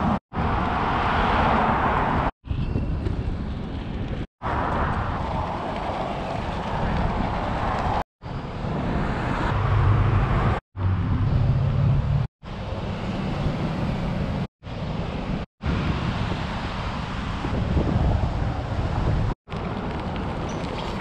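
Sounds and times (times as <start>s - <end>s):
passing road traffic: 0.0s - 2.3s, 3.1s - 21.0s
wind on microphone: 0.0s - 12.2s, 13.2s - 21.0s.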